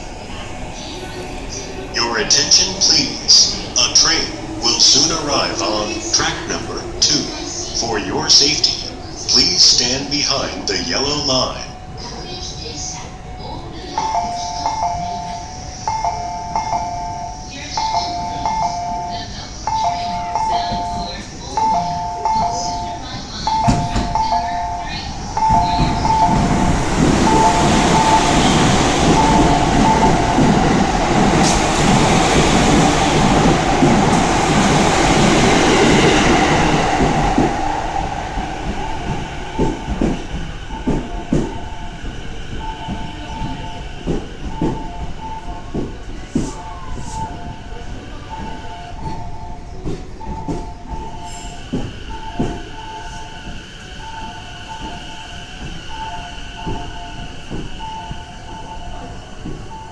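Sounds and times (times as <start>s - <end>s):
electric train pulling in: 0.0s - 59.9s.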